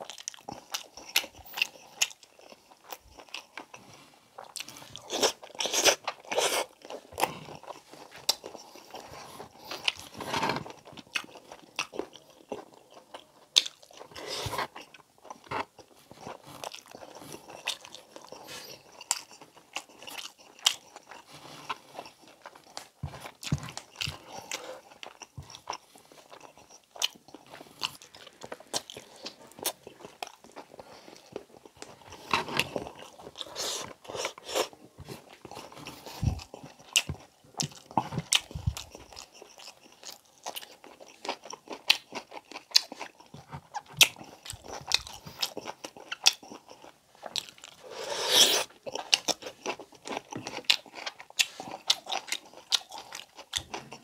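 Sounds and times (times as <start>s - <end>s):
close chewing and biting: 0.0s - 54.0s.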